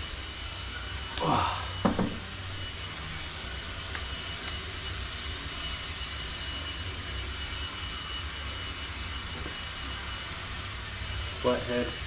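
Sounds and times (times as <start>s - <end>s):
faint high whine: 0.0s - 12.0s
low engine-like drone: 0.0s - 12.0s.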